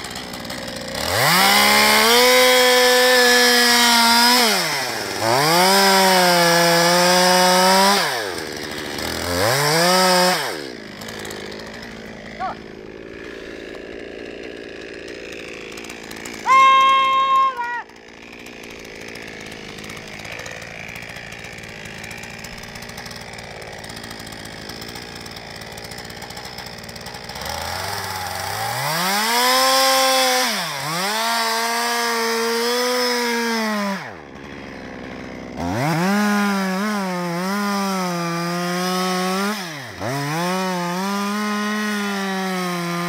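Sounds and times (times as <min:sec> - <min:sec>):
chainsaw revving: 0:00.0 - 0:43.0.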